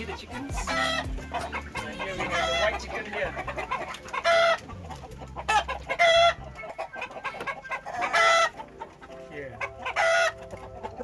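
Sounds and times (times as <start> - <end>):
chicken squawking: 0.0 - 11.0
chickens clucking: 0.0 - 11.0.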